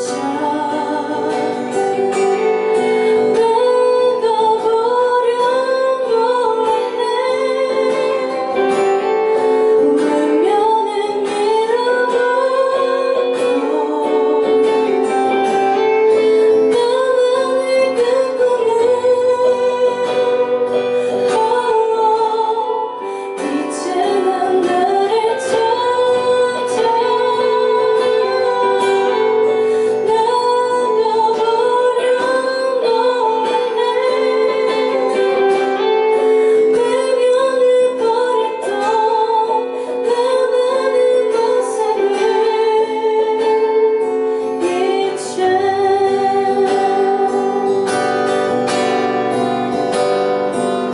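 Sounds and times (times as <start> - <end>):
guitar accompaniment: 0.0 - 50.9
woman singing: 0.0 - 50.9.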